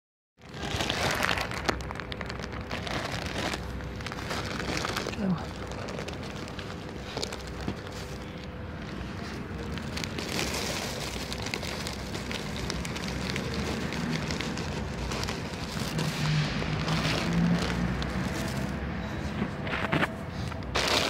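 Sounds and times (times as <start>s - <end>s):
plastic bag crinkling: 0.4s - 19.0s, 19.6s - 21.0s.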